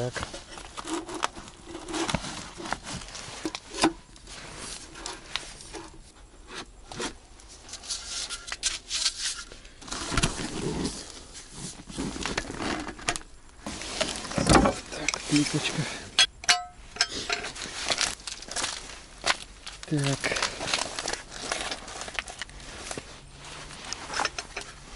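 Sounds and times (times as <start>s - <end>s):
rustling and scraping of gear: 0.0s - 24.9s.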